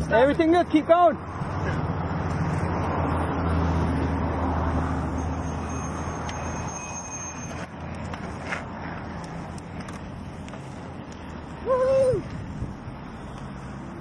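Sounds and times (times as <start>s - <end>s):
vehicle engine and tyre hum: 0.0s - 14.0s.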